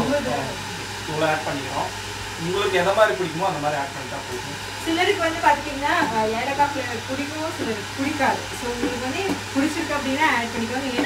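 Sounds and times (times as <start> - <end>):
people talking: 0.0 - 11.0.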